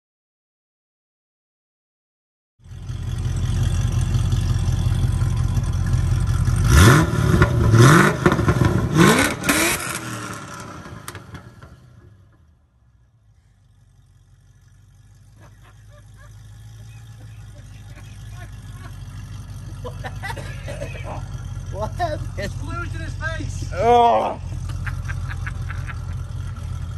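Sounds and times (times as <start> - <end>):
car engine idling and revving: 2.6 - 26.9.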